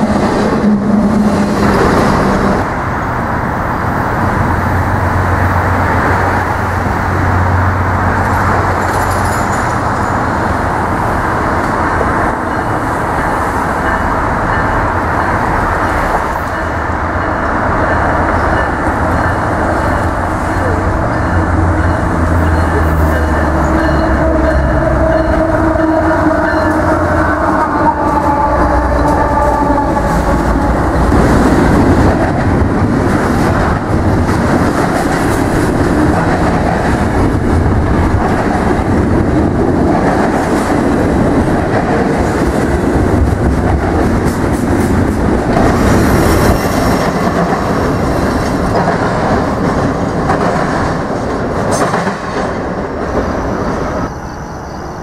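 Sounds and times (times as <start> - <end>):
diesel locomotive engine drone: 0.0 - 55.0
train rolling rumble: 0.0 - 55.0.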